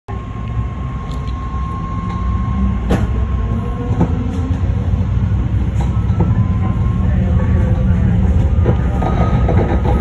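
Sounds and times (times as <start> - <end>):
thin steady whine: 0.1 - 10.0
train rumble on track: 0.1 - 10.0.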